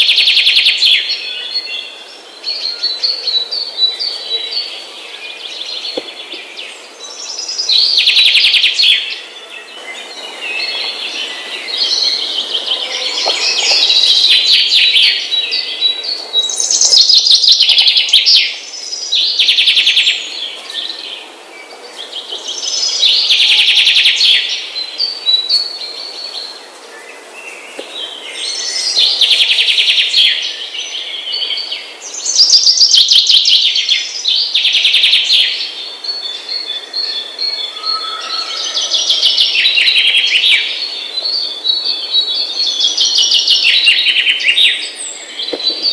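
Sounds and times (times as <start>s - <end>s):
many small birds chirping: 0.0s - 45.9s.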